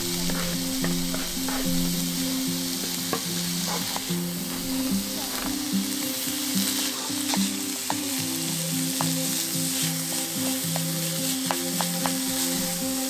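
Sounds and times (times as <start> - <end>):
beef sizzling in a frying pan: 0.0 - 13.0
soft background music: 0.0 - 13.0.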